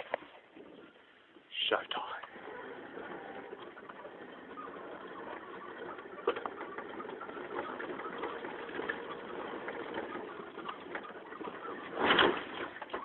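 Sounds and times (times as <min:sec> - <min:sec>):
rattles: 0:02.3 - 0:13.0.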